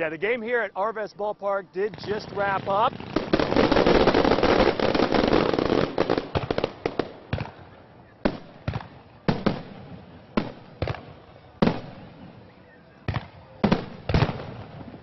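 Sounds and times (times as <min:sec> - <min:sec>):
fireworks crackling: 0:01.7 - 0:15.0
fireworks bangs: 0:01.8 - 0:12.2, 0:13.1 - 0:15.0.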